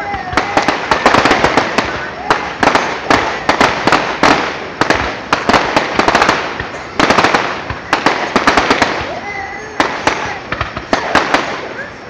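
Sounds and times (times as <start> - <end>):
firework shells bursting: 0.0 - 11.8
firework crackling: 0.0 - 12.0.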